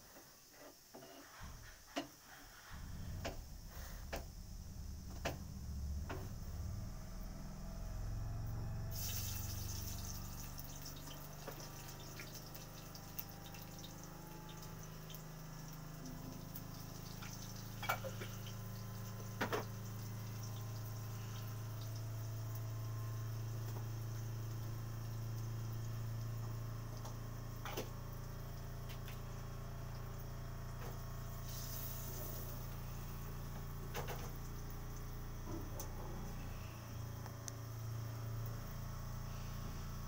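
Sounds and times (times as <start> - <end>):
faint hiss: 0.0 - 40.0
low hum: 2.6 - 40.0.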